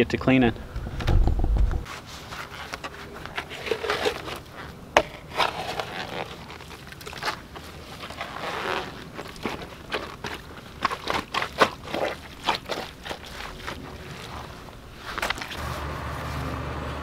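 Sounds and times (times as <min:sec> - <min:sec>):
shovel scraping soil: 0:01.8 - 0:16.6.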